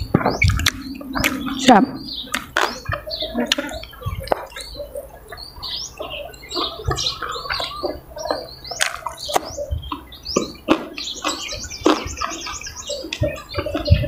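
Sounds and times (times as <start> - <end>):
chewing and wet mouth sounds: 2.3 - 14.0.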